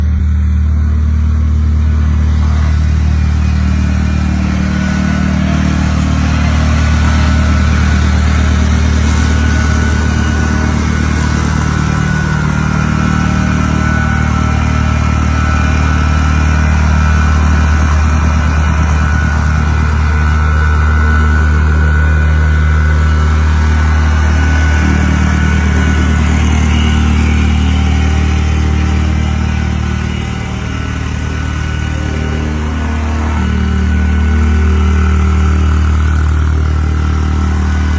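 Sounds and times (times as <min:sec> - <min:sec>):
construction machine engine running: 0:00.0 - 0:37.9.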